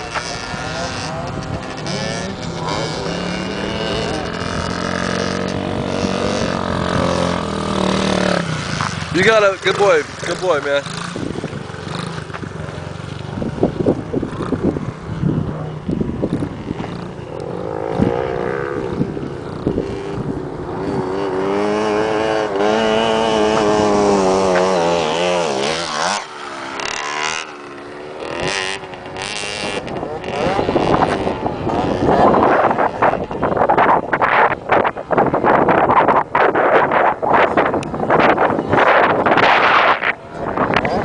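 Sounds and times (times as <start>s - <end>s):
dirt bike engine revving past: 0.0s - 41.0s
second dirt bike sweeping by: 0.0s - 41.0s.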